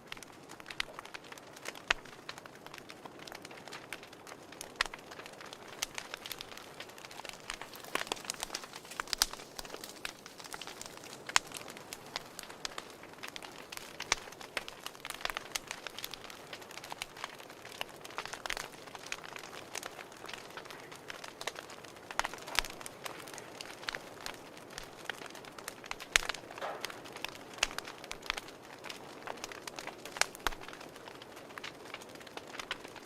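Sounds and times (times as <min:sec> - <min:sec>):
fireplace fire crackling and popping: 0:00.0 - 0:33.0.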